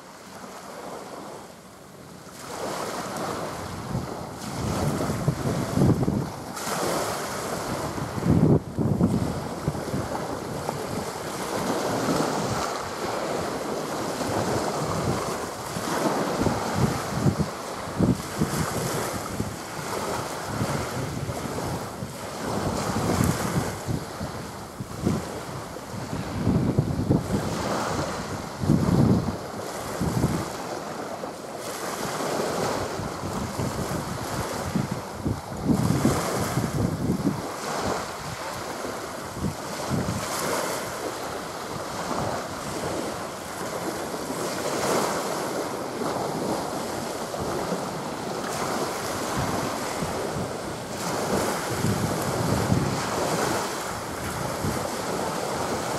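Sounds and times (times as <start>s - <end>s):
small waves washing on shore: 0.0s - 55.9s
wind buffeting microphone: 2.4s - 55.9s.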